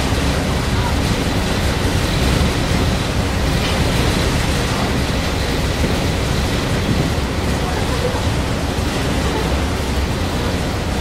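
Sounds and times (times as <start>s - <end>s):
boat engine and rushing water: 0.0s - 11.0s.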